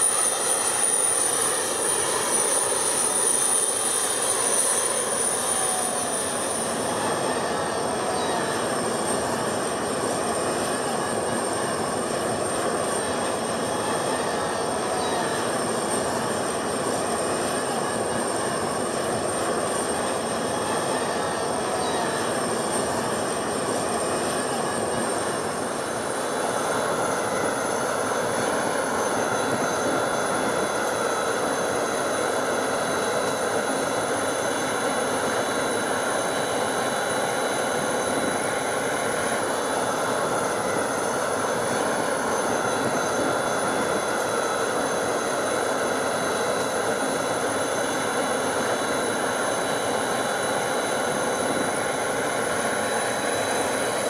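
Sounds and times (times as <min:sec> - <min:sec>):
high-pitched engine whine: 0:00.0 - 0:54.0
jet engines running: 0:00.0 - 0:54.0.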